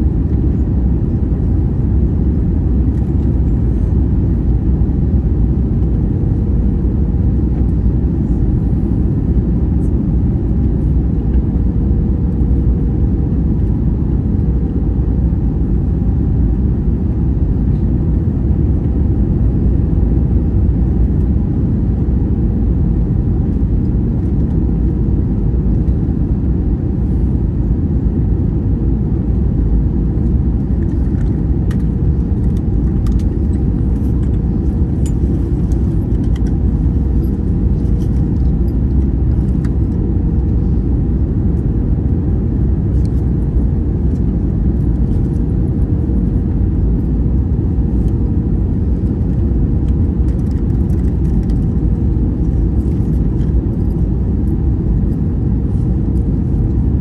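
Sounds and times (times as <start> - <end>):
airflow rush in aircraft cabin: 0.0 - 57.0
jet engines rumbling: 0.0 - 57.0
steady hum: 0.0 - 57.0.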